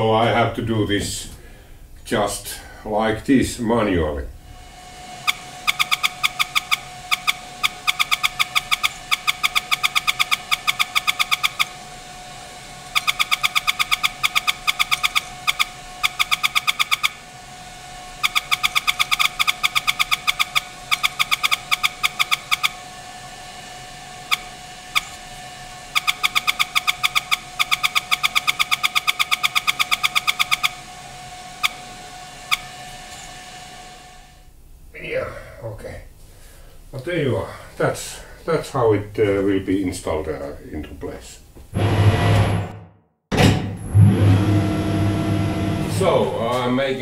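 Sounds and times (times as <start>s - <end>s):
faint hum: 0.0s - 42.6s, 43.7s - 47.0s.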